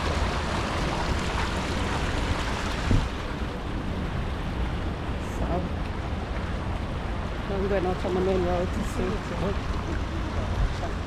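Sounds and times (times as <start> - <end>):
water fountains splashing: 0.0 - 11.0.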